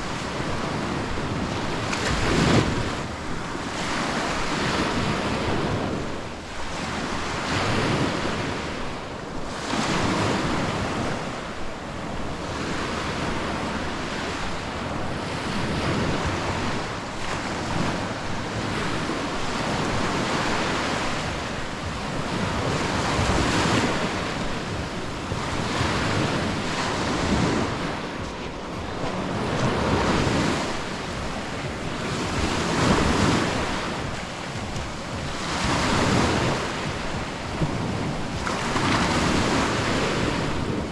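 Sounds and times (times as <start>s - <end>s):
sea waves breaking: 0.0s - 40.9s
wind buffeting microphone: 0.0s - 40.9s.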